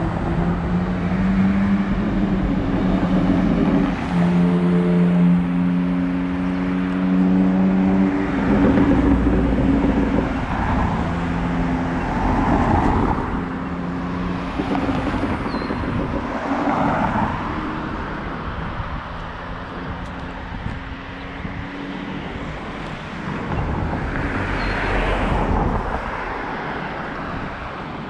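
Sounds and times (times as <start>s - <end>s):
cars passing: 0.0s - 28.0s
steady engine hum: 0.0s - 28.0s.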